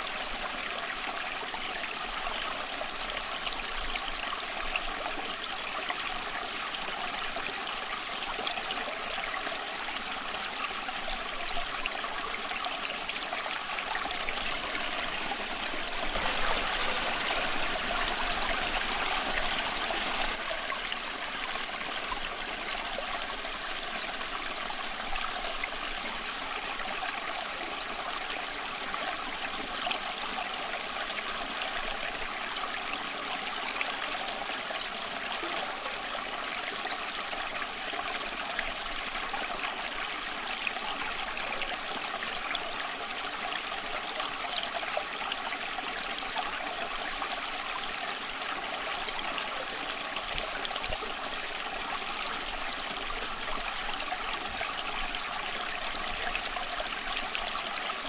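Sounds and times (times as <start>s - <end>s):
creek trickling over stones: 0.0s - 58.0s.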